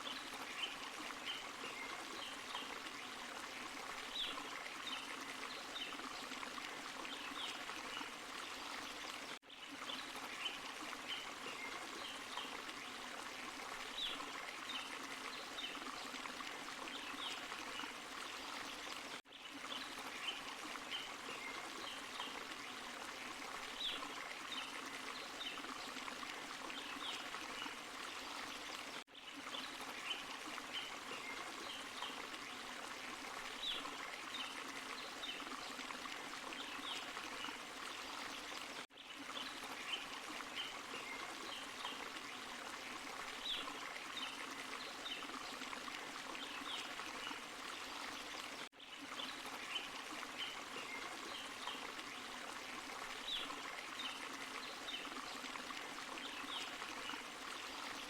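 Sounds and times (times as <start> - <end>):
stream and small waterfall flowing: 0.0 - 58.0.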